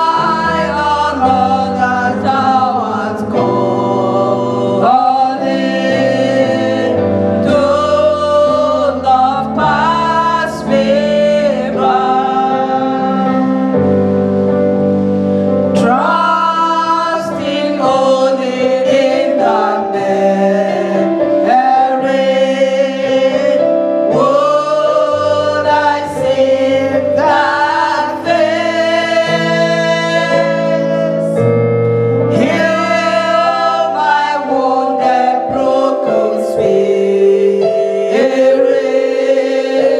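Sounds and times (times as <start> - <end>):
church choir singing gospel: 0.0 - 39.9.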